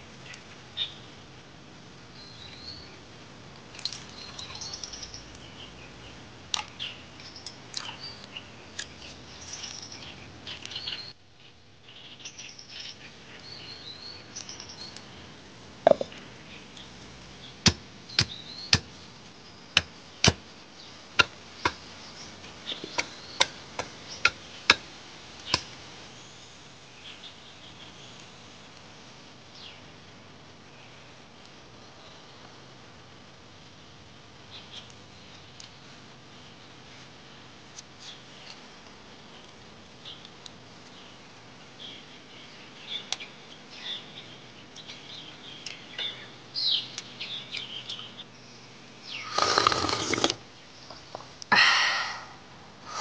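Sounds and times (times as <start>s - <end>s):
background hiss: 0.0s - 53.0s
small birds chirping: 0.2s - 1.3s, 2.0s - 30.0s, 33.7s - 53.0s.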